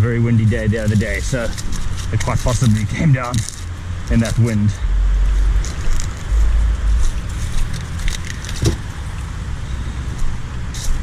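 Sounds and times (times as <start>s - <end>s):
heavy low rumble: 0.0s - 11.0s
highway traffic passing: 0.0s - 11.0s.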